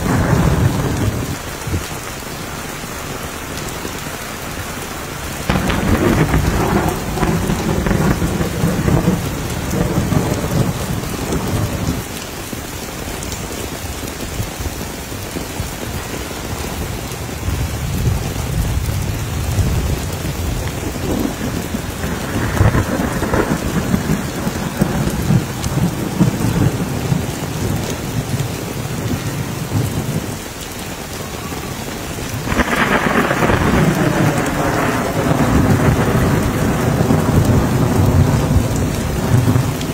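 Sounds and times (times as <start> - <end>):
rolling thunder: 0.0 - 2.3, 5.2 - 14.6, 15.4 - 39.9
rain falling on wet ground: 0.0 - 39.9.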